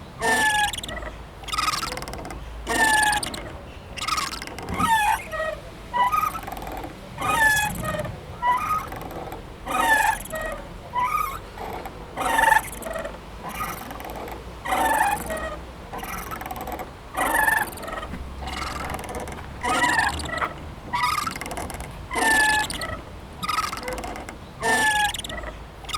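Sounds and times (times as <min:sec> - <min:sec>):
playground swing squeaking: 0:00.0 - 0:25.9.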